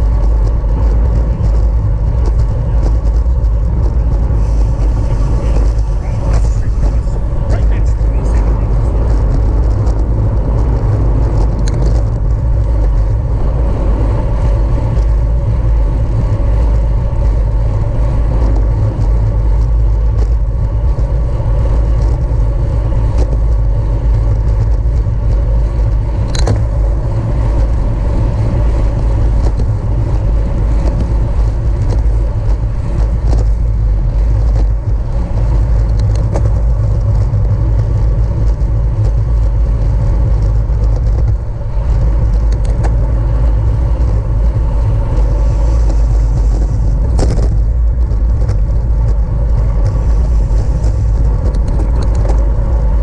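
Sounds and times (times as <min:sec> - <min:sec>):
bicycle tyre and drivetrain noise: 0:00.0 - 0:53.0
wind noise on microphone: 0:00.0 - 0:53.0.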